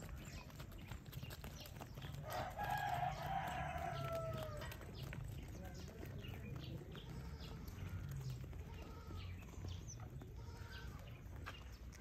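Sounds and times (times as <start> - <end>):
hoof steps on dry dirt: 0.0 - 12.0.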